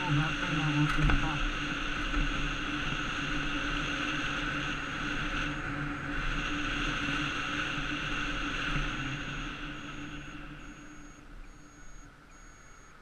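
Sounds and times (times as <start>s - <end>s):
electric bike motor whine: 0.0s - 13.0s
road and wind noise: 0.0s - 13.0s.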